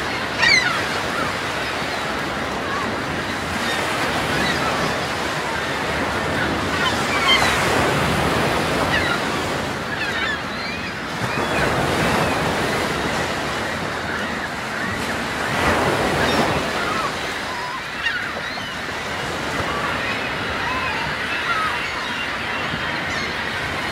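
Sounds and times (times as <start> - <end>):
sea waves washing in: 0.0 - 23.9
seabirds chirping: 0.0 - 23.9.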